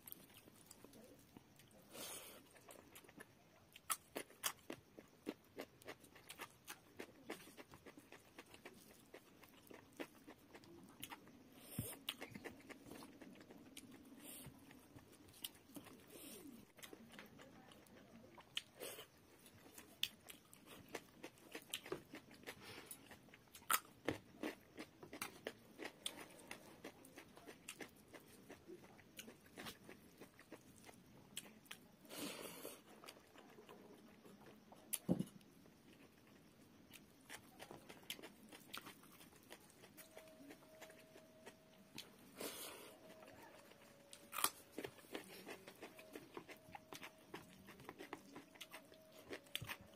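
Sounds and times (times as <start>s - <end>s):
chewing with small clicks: 0.0s - 49.9s.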